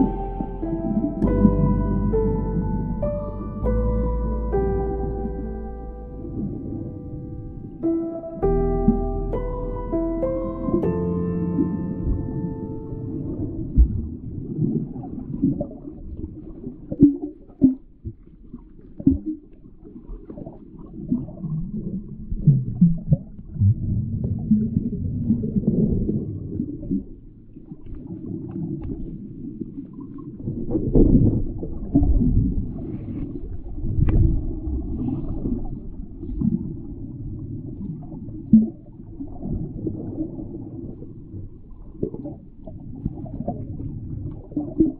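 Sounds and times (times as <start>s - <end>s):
underwater water bubbling: 0.0s - 44.9s.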